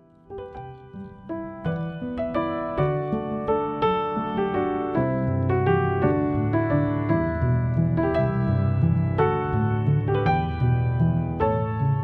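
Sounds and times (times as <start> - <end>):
slow piano notes: 0.0 - 12.0.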